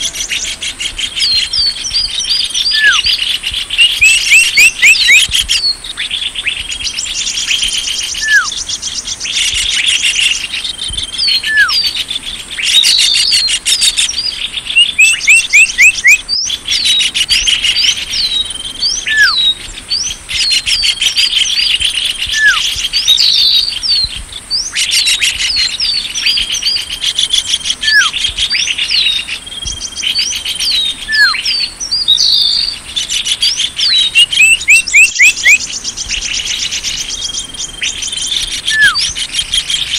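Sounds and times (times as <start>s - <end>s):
bird chirping trills and whistles: 0.0s - 39.9s.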